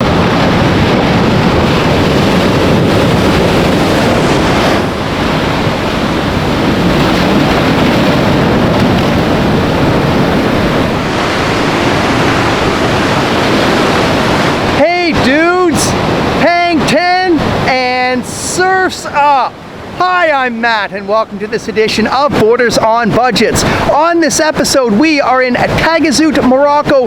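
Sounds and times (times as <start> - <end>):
ocean surf breaking: 0.0 - 27.0
wind buffeting microphone: 0.0 - 27.0.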